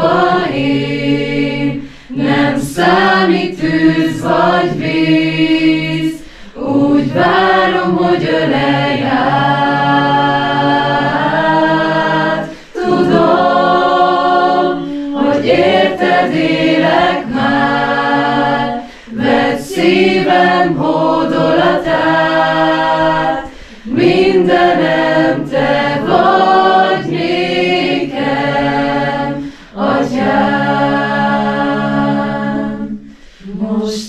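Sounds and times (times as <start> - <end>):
small group singing a cappella: 0.0 - 34.0.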